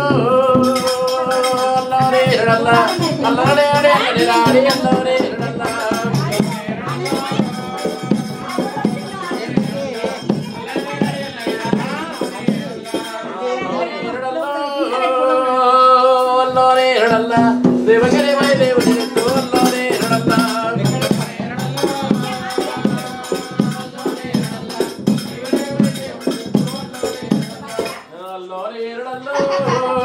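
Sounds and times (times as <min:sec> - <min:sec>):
quick percussion beat: 0:00.0 - 0:13.4, 0:16.4 - 0:28.1.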